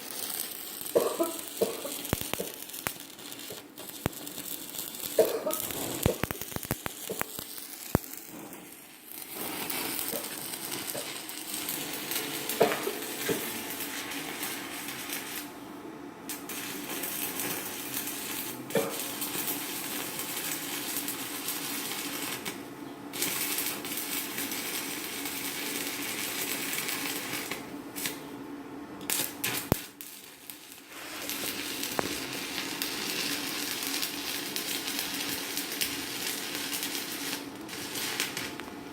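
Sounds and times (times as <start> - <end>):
welding arc crackling sizzle: 0.0 - 15.7, 16.3 - 38.9.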